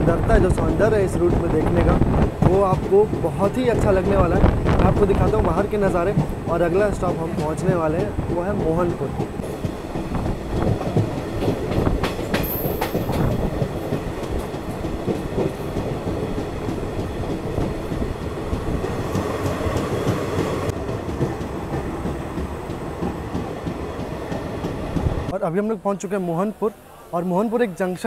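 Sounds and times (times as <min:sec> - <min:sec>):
train wheels clattering over rail joints: 0:00.4 - 0:25.3.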